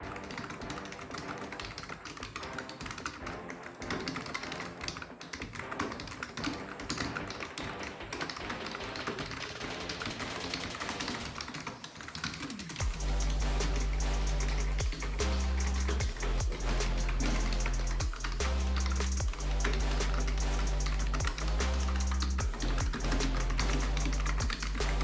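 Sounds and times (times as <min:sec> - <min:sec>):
fast keyboard typing: 0:00.0 - 0:12.9, 0:16.7 - 0:25.0.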